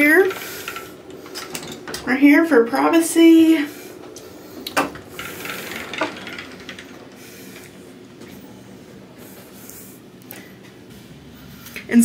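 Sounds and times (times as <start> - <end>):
sliding door rolling along track: 0.0 - 10.0.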